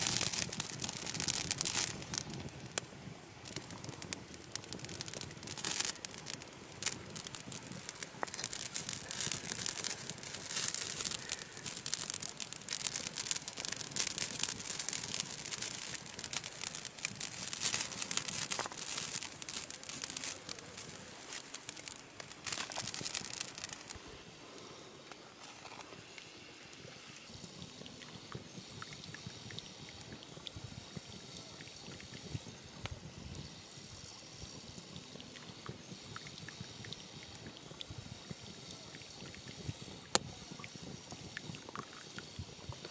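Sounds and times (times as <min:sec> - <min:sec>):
pot crackling and sizzling over fire: 0:00.0 - 0:42.9.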